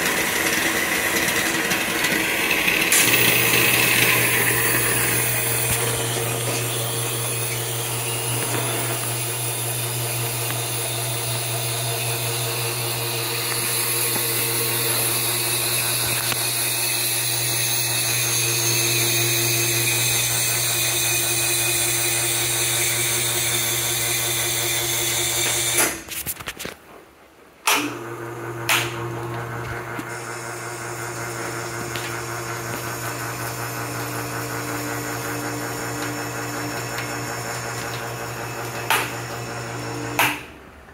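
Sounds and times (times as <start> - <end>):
espresso machine pump humming: 0.0 - 25.8, 27.9 - 40.2.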